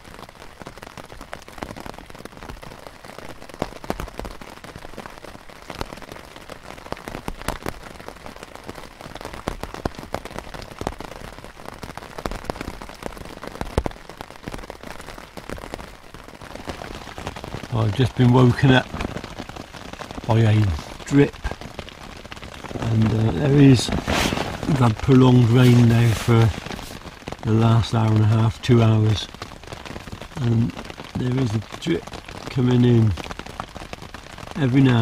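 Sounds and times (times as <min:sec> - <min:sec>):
rain falling: 0:00.0 - 0:35.0
raindrops tapping close by: 0:00.0 - 0:35.0.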